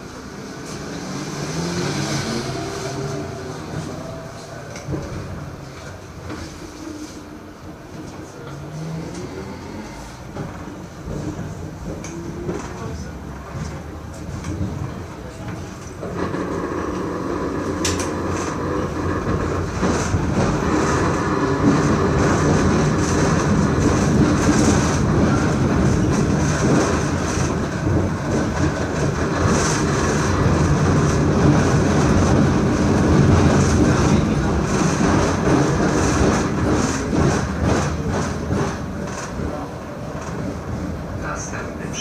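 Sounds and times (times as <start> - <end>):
tram wheels rumbling on rails: 0.0 - 42.0.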